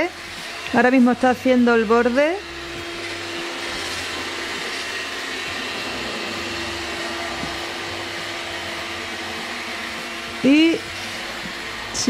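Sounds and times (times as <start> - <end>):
robot vacuum running: 0.0 - 12.0.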